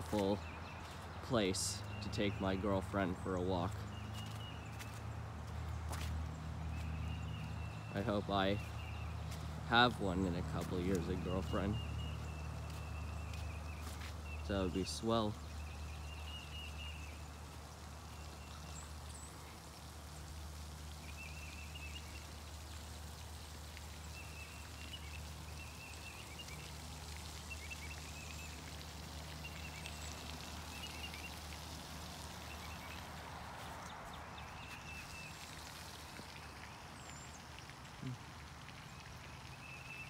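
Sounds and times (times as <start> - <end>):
fountain spraying and splashing: 0.0 - 40.0.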